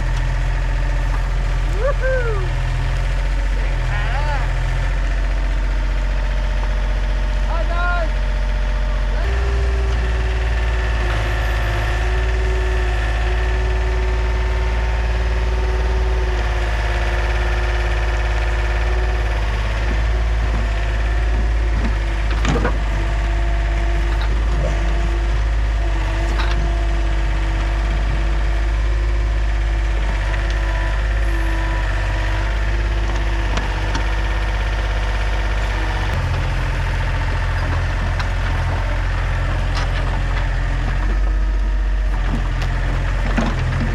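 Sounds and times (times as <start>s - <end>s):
excavator engine hum: 0.0s - 43.9s
hydraulic whine: 8.1s - 43.9s.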